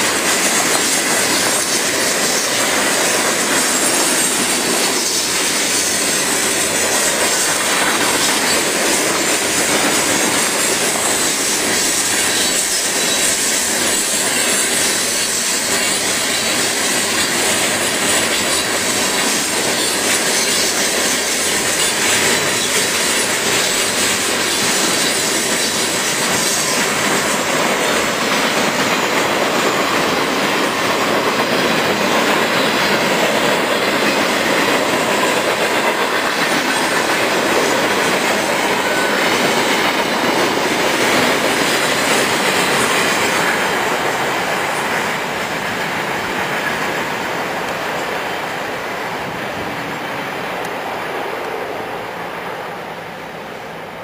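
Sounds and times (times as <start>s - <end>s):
freight train wheels rattling: 0.0s - 54.0s.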